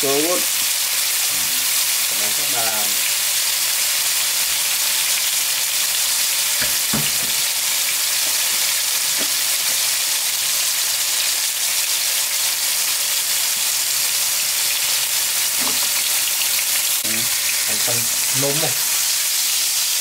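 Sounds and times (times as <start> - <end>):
beef sizzling in a pan: 0.0 - 20.0.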